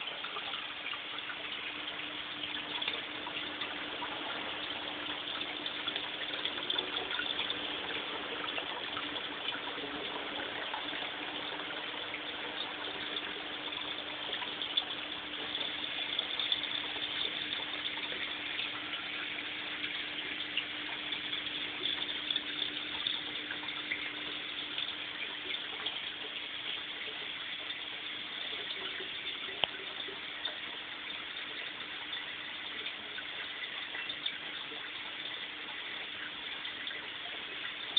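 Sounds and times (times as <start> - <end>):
water pouring and splashing: 0.0 - 37.9.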